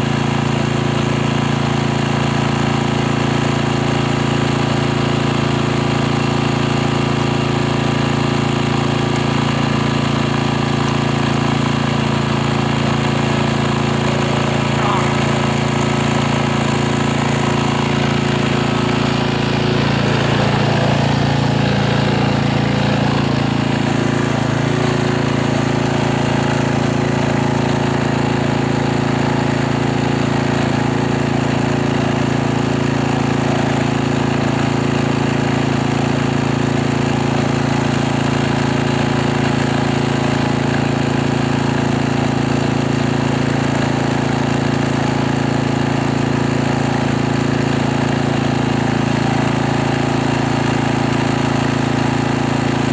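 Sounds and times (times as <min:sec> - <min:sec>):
portable generator engine running: 0:00.0 - 0:52.9.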